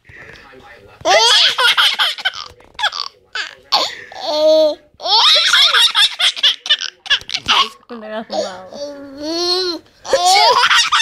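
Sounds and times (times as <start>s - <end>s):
baby laughing: 1.0s - 11.0s.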